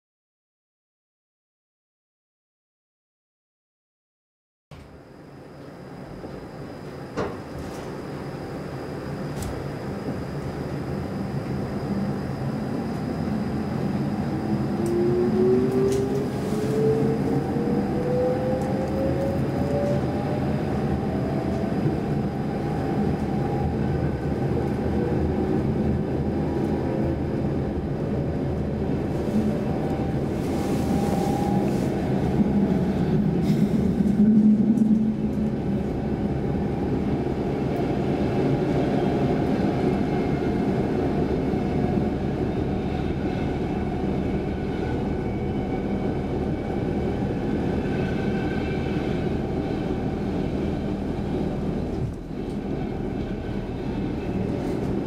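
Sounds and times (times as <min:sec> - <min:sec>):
electric train rumble: 0:04.8 - 0:55.0.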